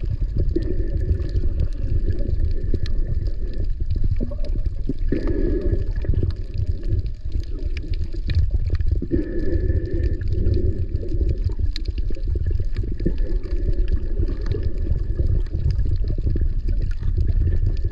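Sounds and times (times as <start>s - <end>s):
clicks and crackles: 0.0s - 17.9s
underwater rumble of moving water: 0.0s - 17.9s.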